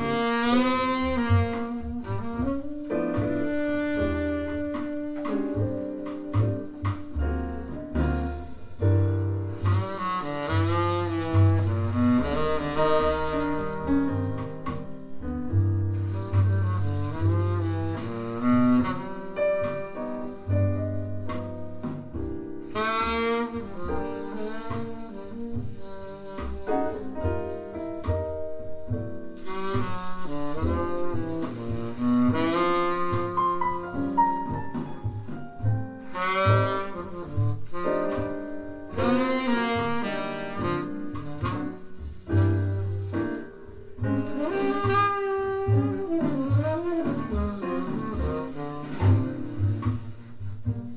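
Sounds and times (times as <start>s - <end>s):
saxophone melody: 0.0s - 8.5s, 9.1s - 14.6s, 15.8s - 50.9s
double bass: 0.0s - 50.9s
light drum and cymbal strokes: 0.0s - 50.9s.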